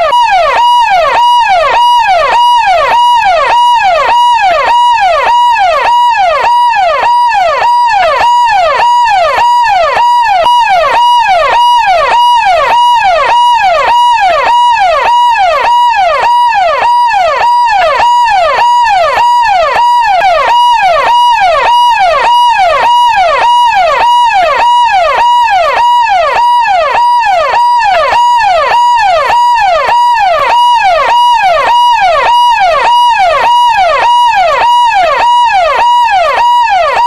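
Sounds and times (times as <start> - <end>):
police siren yelping: 0.0 - 37.0.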